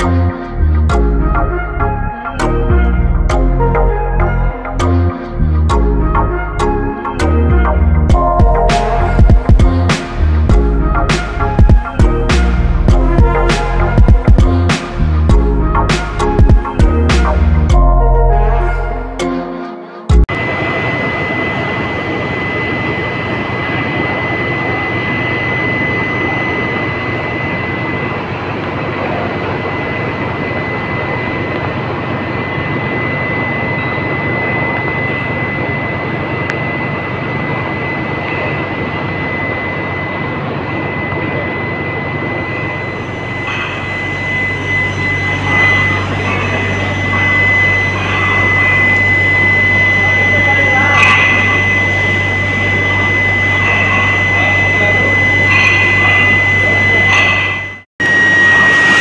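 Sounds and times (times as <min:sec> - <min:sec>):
high-pitched furnace whine: 0:00.0 - 0:19.3, 0:20.2 - 0:59.0
deep machinery hum: 0:00.0 - 0:19.5, 0:20.1 - 0:59.0.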